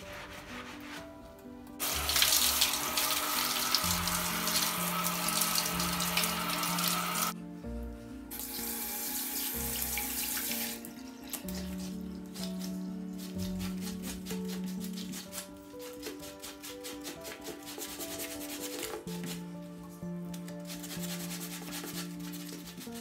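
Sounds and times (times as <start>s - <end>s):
soft background music: 0.0s - 23.0s.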